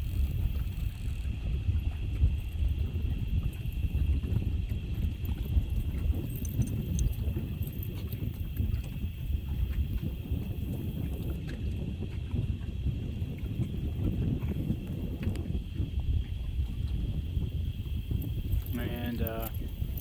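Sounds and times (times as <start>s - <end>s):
storm wind buffeting microphone: 0.0s - 20.0s.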